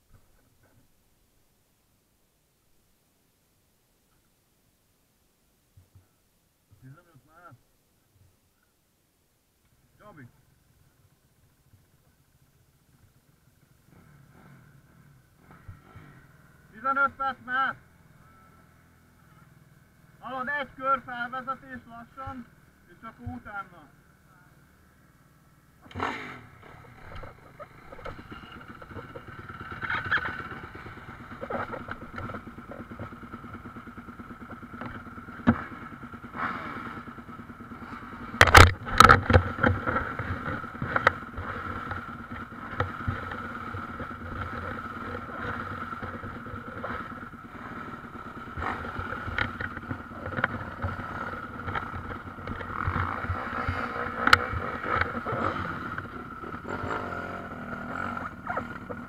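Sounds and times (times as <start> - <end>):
motorbike engines idling: 9.7 - 59.0.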